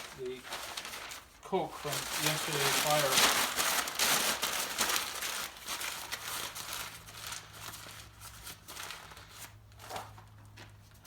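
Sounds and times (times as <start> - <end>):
newspaper crumpling: 0.0 - 10.3.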